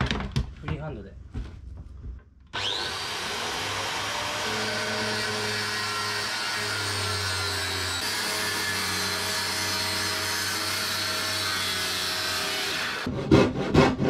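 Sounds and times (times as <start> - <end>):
power saw cutting wood: 2.6 - 14.0.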